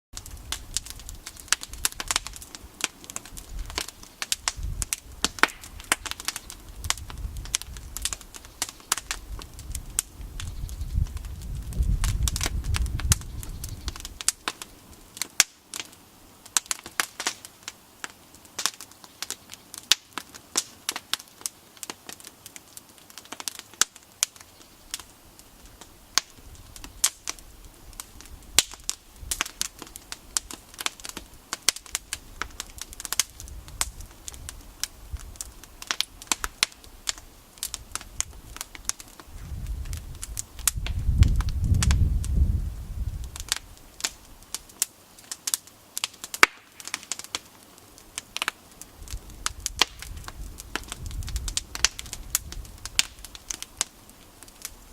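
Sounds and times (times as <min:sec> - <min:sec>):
campfire crackling and popping: 0:00.1 - 0:54.9.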